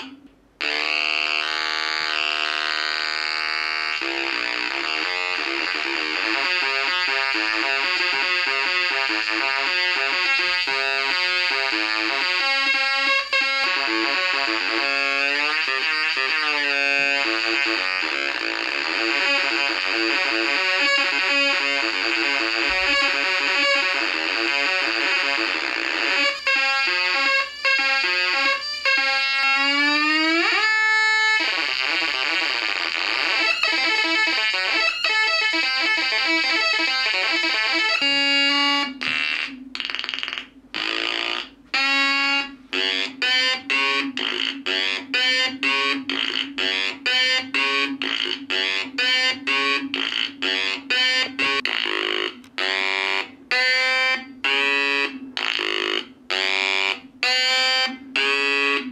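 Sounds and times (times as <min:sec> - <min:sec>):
buzzing square-wave synth tones: 0:00.0 - 0:58.9.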